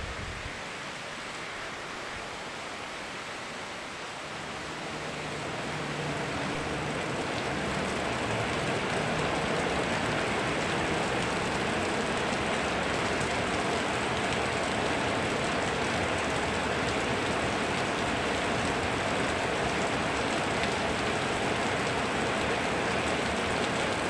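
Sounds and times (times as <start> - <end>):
rain hissing: 0.0 - 24.0
river water rushing: 0.0 - 24.0.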